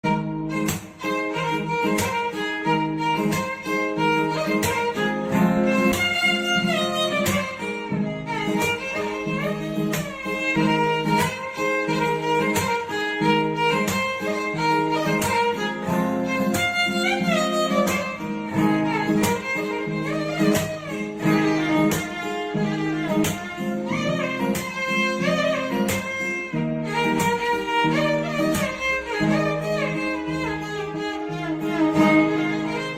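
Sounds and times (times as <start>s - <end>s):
sliding melody over steady beat: 0.0s - 32.9s.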